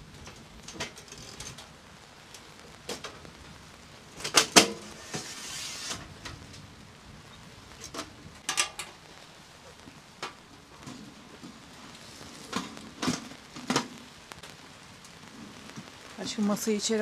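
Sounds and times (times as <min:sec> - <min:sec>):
faint rain: 0:00.0 - 0:17.0.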